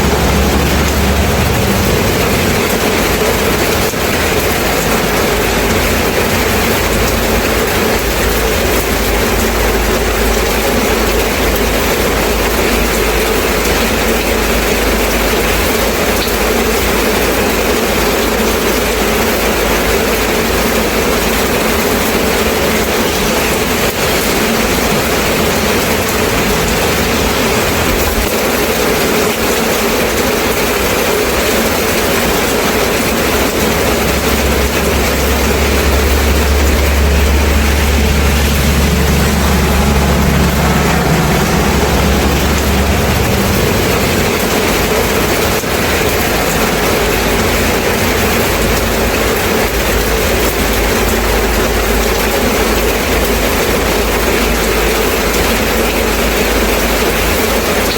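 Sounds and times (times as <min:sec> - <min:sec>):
low vehicle rumble: 0:00.0 - 0:57.9
steady rain hiss: 0:00.0 - 0:57.9.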